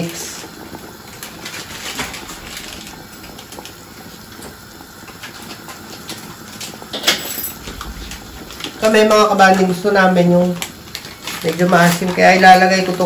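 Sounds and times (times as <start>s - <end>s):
soup boiling: 0.0s - 13.0s.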